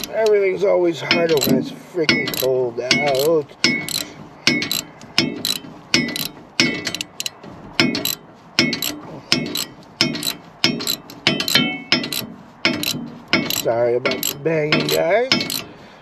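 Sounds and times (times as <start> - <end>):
metal banging with ring: 0.0 - 15.8
socket wrench ratcheting: 1.1 - 15.7.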